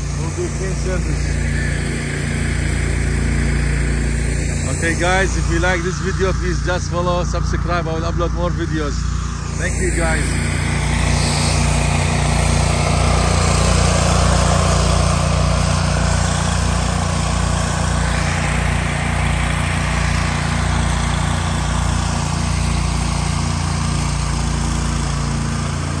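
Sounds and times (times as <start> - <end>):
pressure washer engine running: 0.0 - 26.0
water jet spraying concrete: 0.0 - 26.0.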